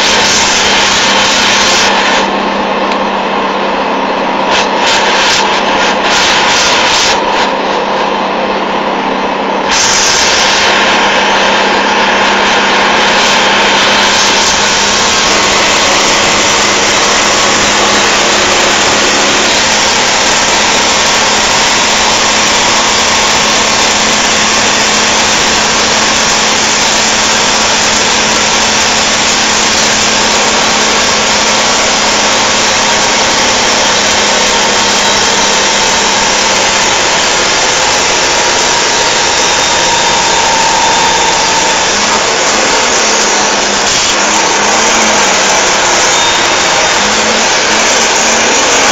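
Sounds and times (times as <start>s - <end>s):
truck diesel engine droning: 0.0s - 48.9s.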